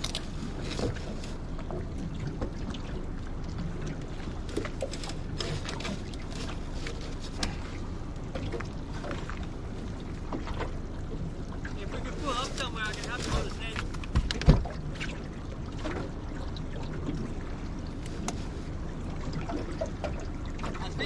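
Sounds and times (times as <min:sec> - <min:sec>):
steady low rumble: 0:00.0 - 0:21.0
water splashing around boat: 0:00.0 - 0:21.0.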